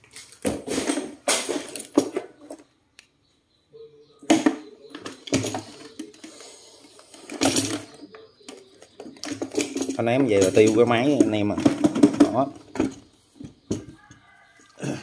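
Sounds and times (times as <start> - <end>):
wires clattering on metal casing: 0.0 - 2.7, 4.3 - 14.3.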